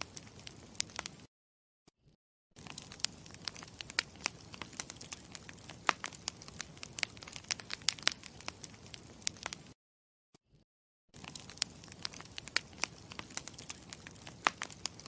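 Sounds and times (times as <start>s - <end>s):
campfire crackling: 0.0s - 1.3s, 2.6s - 9.8s, 11.2s - 15.0s.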